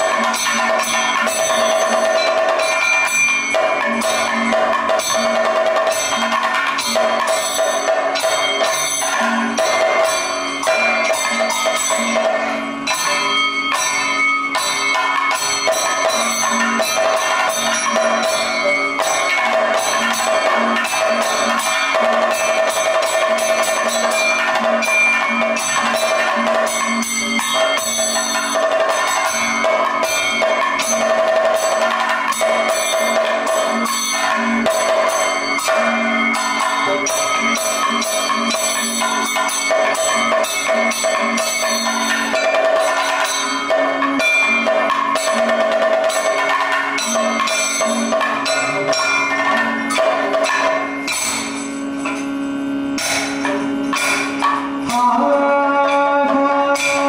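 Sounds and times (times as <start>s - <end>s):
chenda and maddalam drums: 0.0s - 57.0s
gong ringing: 0.0s - 57.0s
small cymbals ringing: 0.0s - 57.0s.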